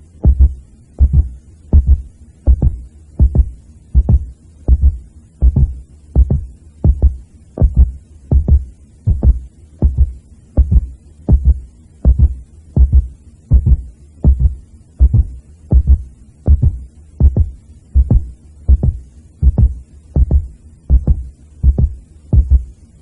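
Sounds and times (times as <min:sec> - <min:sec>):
heartbeat-like thumping: 0:00.0 - 0:22.8.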